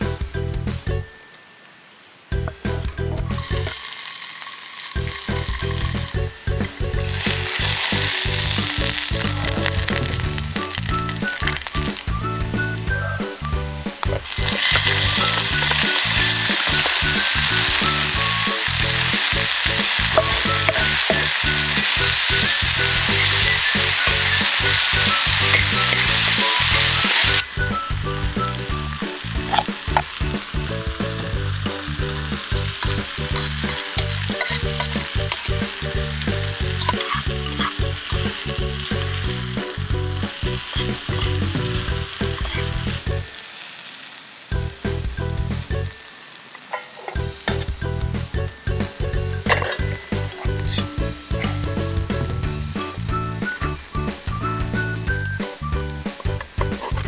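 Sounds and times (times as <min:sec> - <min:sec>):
background music: 0:00.0 - 0:04.1, 0:04.7 - 0:43.5, 0:44.5 - 0:46.2, 0:47.0 - 0:57.0
food sizzling in a pan: 0:02.4 - 0:54.9
oil crackling: 0:02.4 - 0:55.0.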